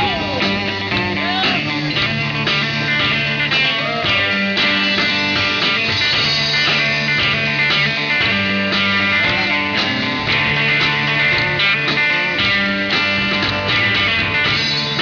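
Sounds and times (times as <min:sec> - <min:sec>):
country band playing: 0:00.0 - 0:15.0
guitar solo with bent notes: 0:00.0 - 0:15.0.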